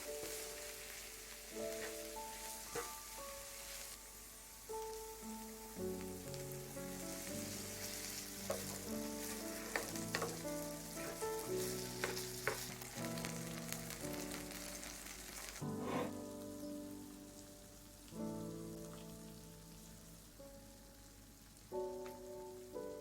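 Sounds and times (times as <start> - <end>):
background music: 0.0 - 23.0
food sizzling on hot plate: 0.0 - 23.0.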